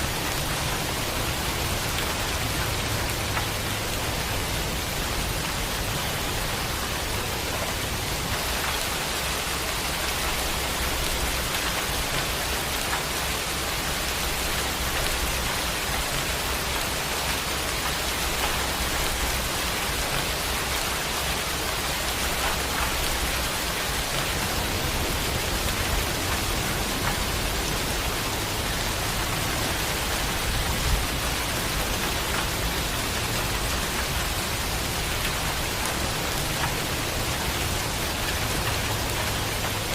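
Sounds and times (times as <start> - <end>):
steady rain falling: 0.0 - 39.9
raindrop ticks: 0.1 - 39.9.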